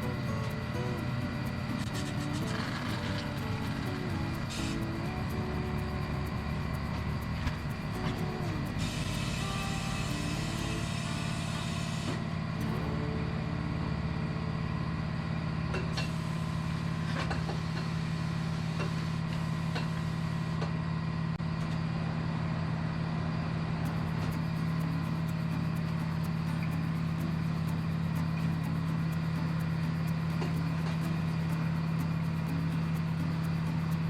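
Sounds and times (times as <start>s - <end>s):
machine humming: 0.0s - 17.0s, 23.6s - 34.0s.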